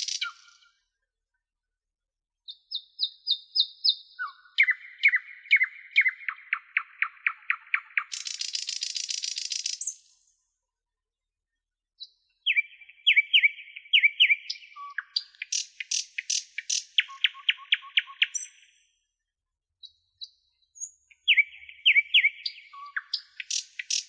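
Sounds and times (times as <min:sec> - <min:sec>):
songbird chirping: 0:00.0 - 0:00.8, 0:02.4 - 0:10.4, 0:12.0 - 0:18.9, 0:19.8 - 0:24.0.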